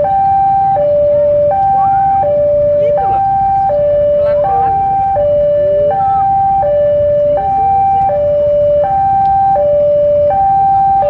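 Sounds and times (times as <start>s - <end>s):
level crossing alarm two-tone: 0.0s - 11.0s.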